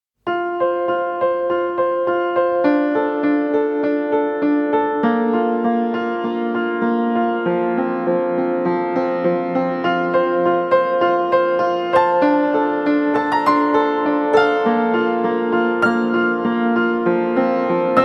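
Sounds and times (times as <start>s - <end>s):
gentle piano music: 0.2s - 18.0s.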